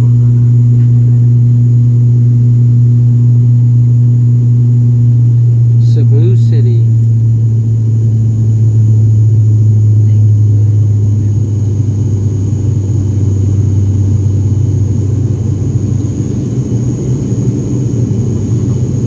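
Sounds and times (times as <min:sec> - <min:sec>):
faint high whine: 0:00.0 - 0:19.0
jet engine drone: 0:00.0 - 0:19.0.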